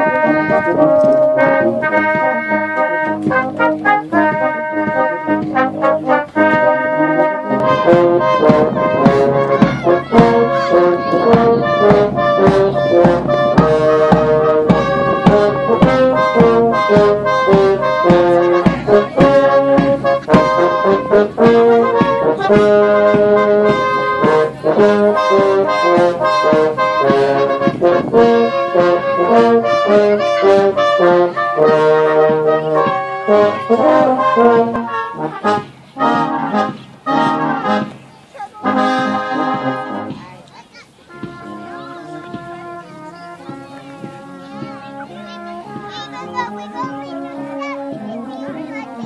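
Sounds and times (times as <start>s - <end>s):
brass band music: 0.0s - 49.0s.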